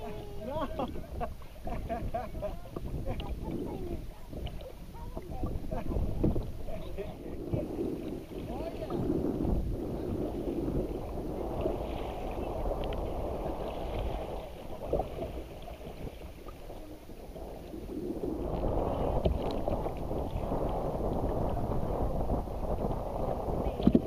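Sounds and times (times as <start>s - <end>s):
water lapping against kayak hull: 0.0s - 24.0s
wind rumbling on microphone: 0.0s - 24.0s.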